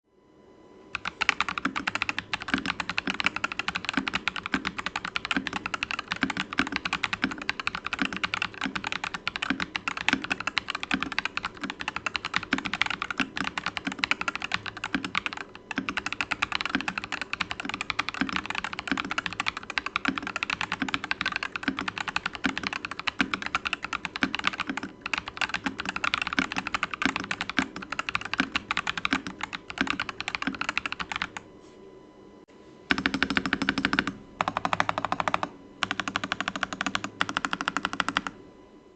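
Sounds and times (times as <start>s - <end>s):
fast typing on mechanical keyboard: 1.0s - 31.4s, 32.9s - 38.3s.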